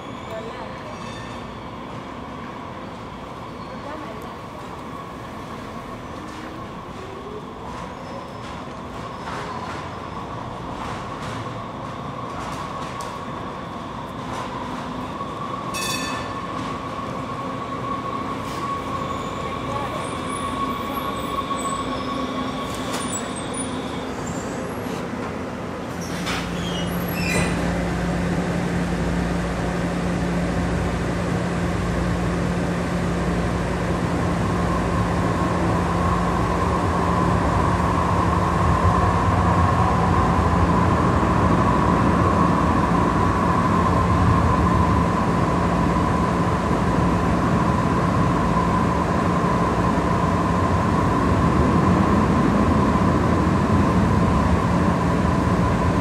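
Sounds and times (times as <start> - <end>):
light rail vehicle whine: 0.0 - 56.0
rail car rumbling on rails: 0.0 - 56.0.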